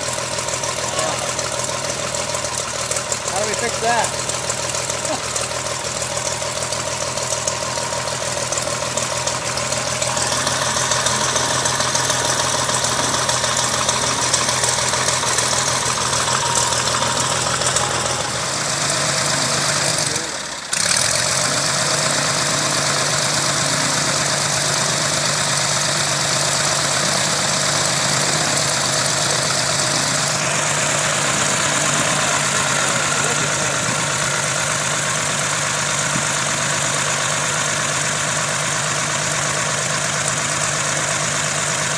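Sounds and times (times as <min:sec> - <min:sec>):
aircraft piston engine running: 0:00.0 - 0:41.9.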